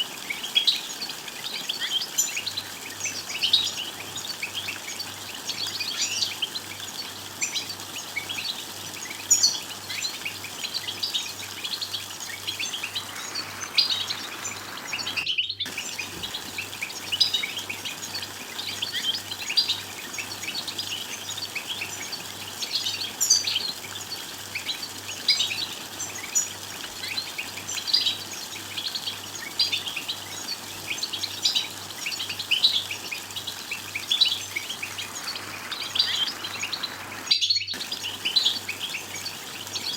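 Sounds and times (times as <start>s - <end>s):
finches twittering: 0.2s - 39.9s.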